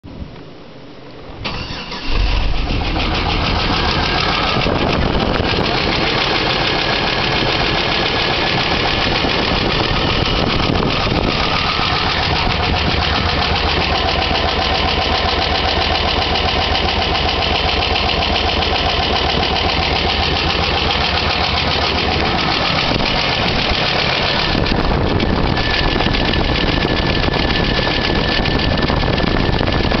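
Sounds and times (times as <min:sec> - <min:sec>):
engine running with rapid ticking: 0:01.4 - 0:30.0
steady tone: 0:02.3 - 0:29.7.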